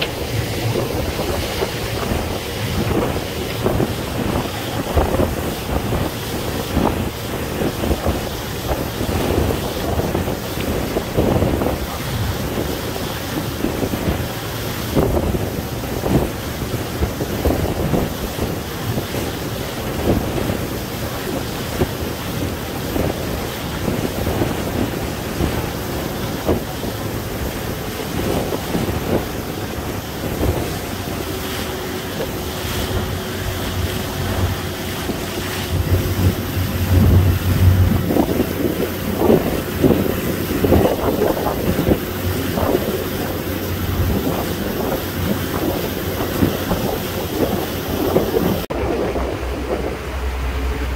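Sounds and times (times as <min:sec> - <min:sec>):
low drone of ship engines: 0:00.0 - 0:50.9
water rushing along hull: 0:00.0 - 0:50.9
wind buffeting microphone: 0:00.0 - 0:50.9.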